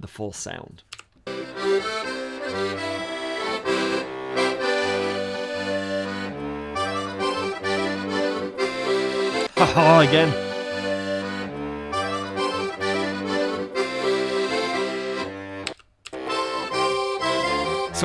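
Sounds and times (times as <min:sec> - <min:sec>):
accordion playing chords and bass: 0:01.3 - 0:18.0.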